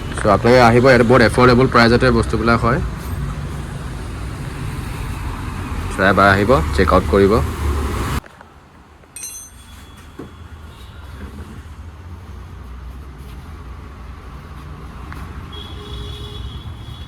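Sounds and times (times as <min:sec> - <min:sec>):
motor vehicle rumble: 0:00.0 - 0:15.7.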